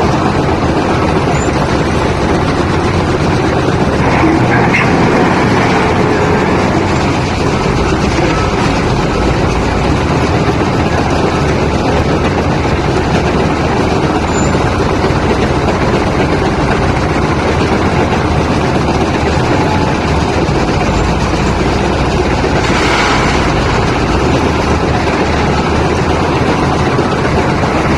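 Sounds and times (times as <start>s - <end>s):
diesel engine running loud: 0.0s - 27.9s.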